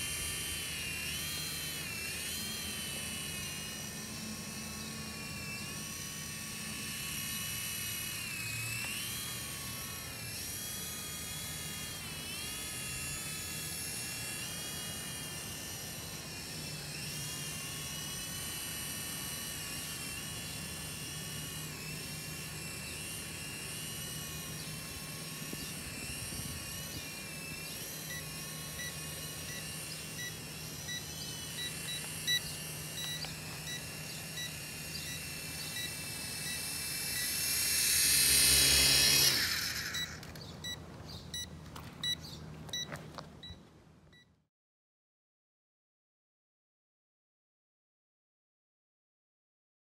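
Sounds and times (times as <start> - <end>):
helicopter rotors whining: 0.0 - 43.6.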